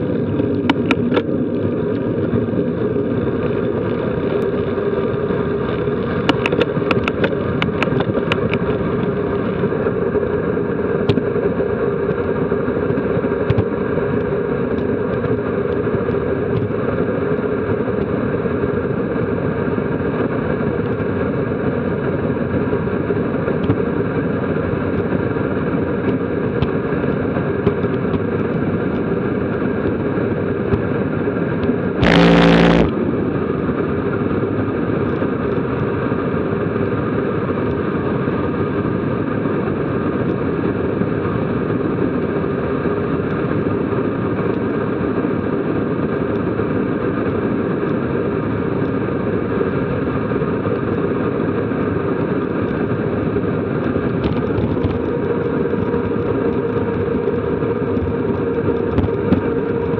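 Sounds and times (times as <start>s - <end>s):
wind rush over microphone: 0.0s - 59.9s.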